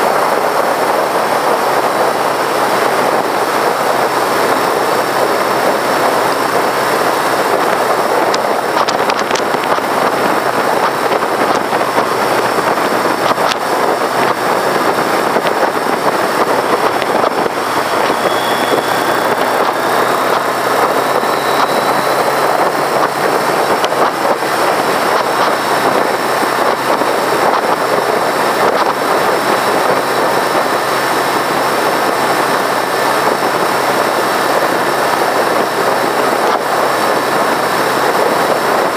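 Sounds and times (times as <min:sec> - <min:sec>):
wind rushing over microphone: 0:00.0 - 0:38.9
motorcycle engine running: 0:01.4 - 0:38.7.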